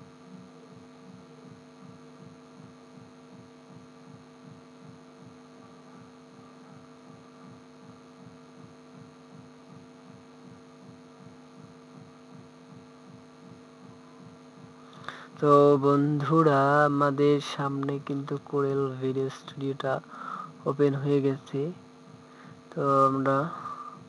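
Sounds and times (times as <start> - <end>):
electrical hum with throbbing pulse: 0.0 - 24.0.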